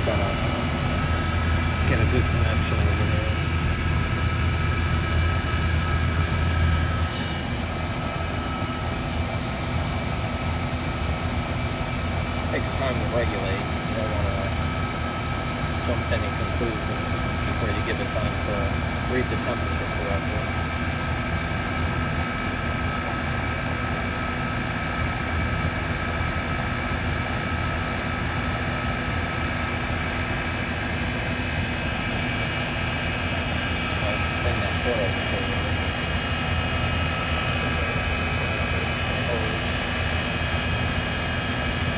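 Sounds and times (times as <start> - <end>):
heat pump unit humming: 0.0 - 41.9.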